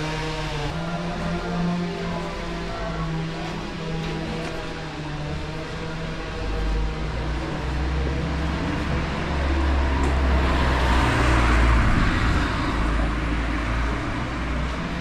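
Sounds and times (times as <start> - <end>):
low traffic rumble: 0.0 - 15.0
vehicle passing by: 0.0 - 15.0.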